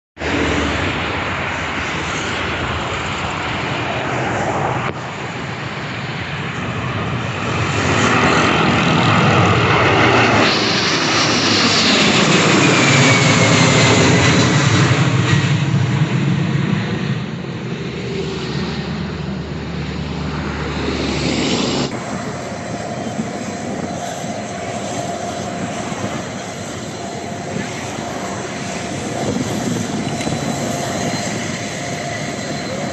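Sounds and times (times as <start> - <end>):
airplane engines passing by: 0.2 - 32.9
high jet whine: 0.2 - 32.9.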